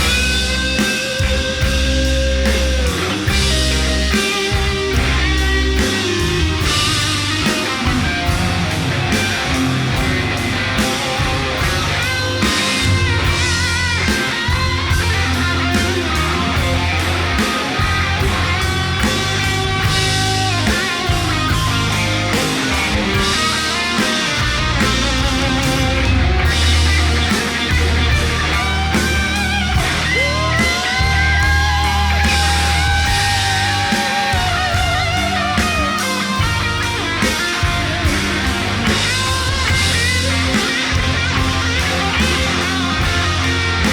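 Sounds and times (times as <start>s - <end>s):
bass guitar: 0.0s - 43.9s
drums: 0.0s - 43.9s
electric lead guitar: 0.0s - 43.9s.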